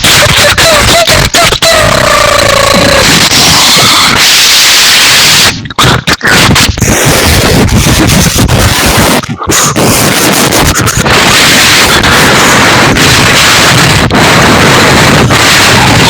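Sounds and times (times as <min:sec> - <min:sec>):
boy imitating thunder with mouth: 0:00.0 - 0:16.0.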